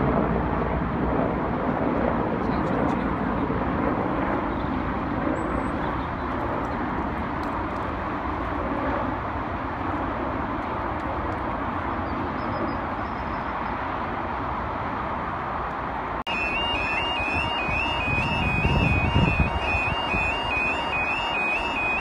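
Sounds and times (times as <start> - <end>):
distant helicopter drone: 0.0 - 22.0.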